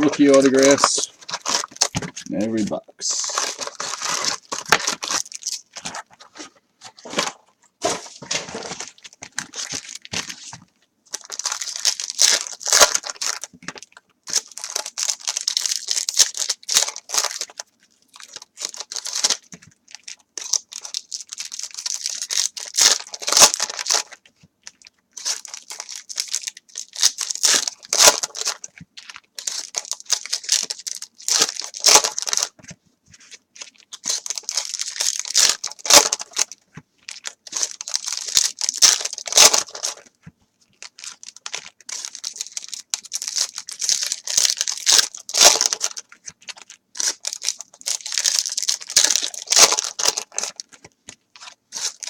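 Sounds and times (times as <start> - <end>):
foil wrappers tearing and crinkling: 0.0 - 2.2, 3.1 - 40.2, 40.8 - 52.0.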